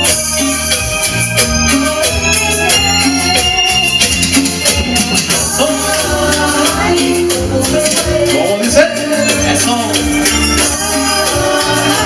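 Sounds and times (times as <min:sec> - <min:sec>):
bass: 0:00.0 - 0:12.0
drums: 0:00.0 - 0:12.0
organ keyboard chords: 0:00.0 - 0:12.0.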